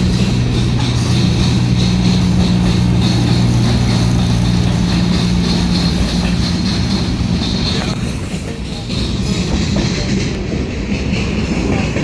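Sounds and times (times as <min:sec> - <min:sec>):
steel wheels rolling on rail: 0:00.0 - 0:12.0.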